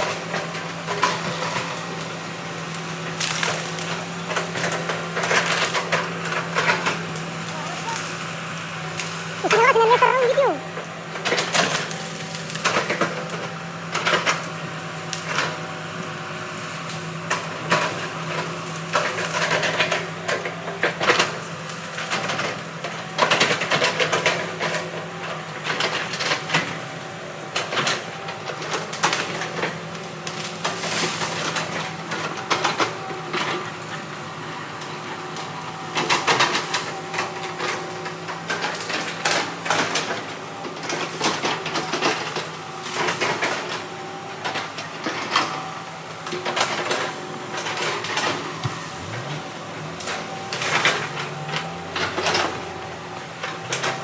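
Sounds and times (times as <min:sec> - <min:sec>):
diesel engine of earthmoving machine: 0:00.0 - 0:54.0.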